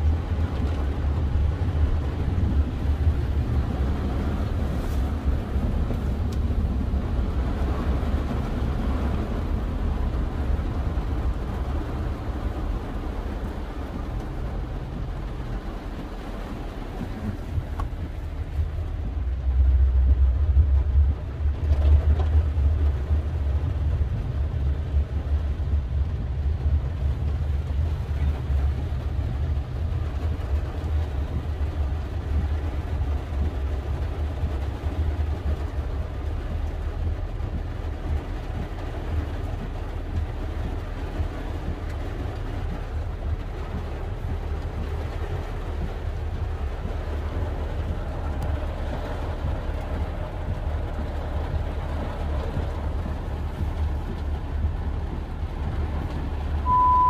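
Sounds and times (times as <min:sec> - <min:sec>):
car driving rumble inside cabin: 0:00.0 - 0:57.0.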